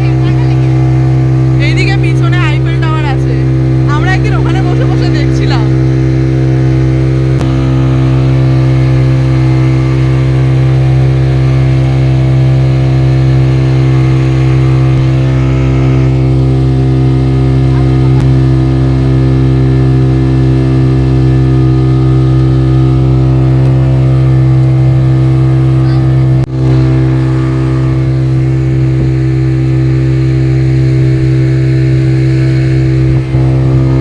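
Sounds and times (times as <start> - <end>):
speedboat engine running: 0.0 - 34.0.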